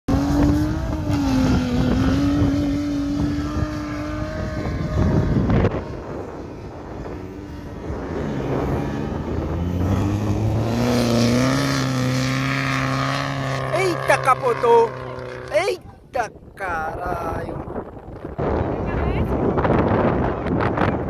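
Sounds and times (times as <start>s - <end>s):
off-road engine running hard: 0.1s - 21.0s
wind on microphone: 0.1s - 21.0s.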